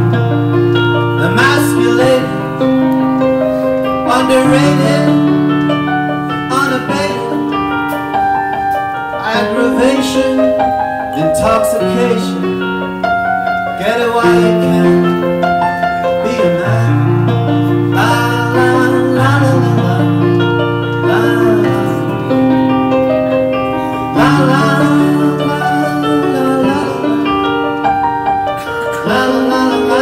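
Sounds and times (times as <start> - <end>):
keyboard piano chords: 0.0 - 30.0.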